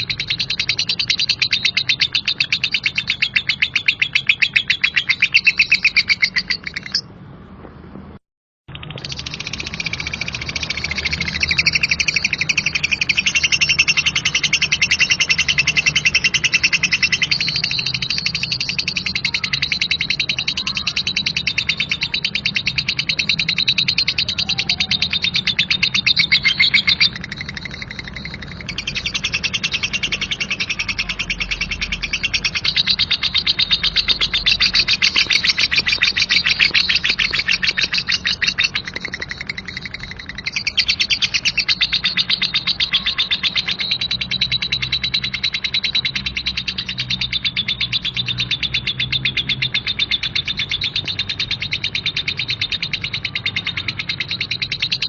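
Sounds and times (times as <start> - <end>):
lovebird chattering trill: 0.0 - 7.1, 8.7 - 55.0.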